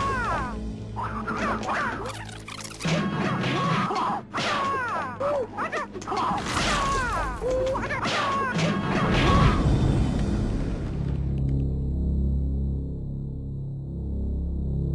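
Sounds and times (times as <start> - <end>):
trailer music: 0.0 - 14.9.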